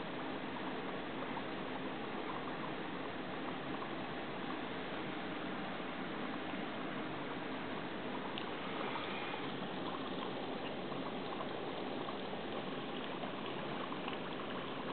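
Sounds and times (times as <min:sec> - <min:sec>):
bubbling trickling water: 0:00.0 - 0:14.9.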